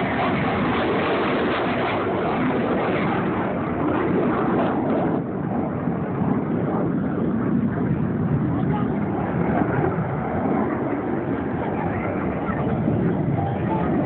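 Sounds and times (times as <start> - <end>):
fighter jets rushing noise: 0.0 - 14.0.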